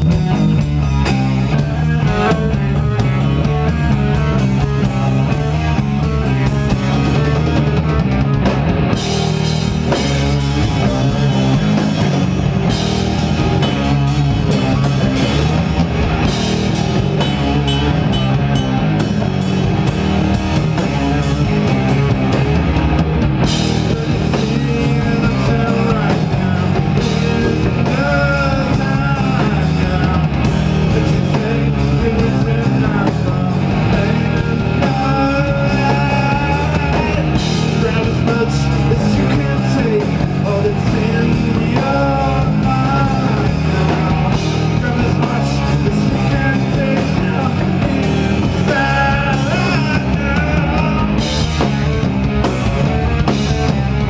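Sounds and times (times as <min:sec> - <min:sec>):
distorted electric guitars: 0:00.0 - 0:54.0
pounding drum kit: 0:00.0 - 0:54.0.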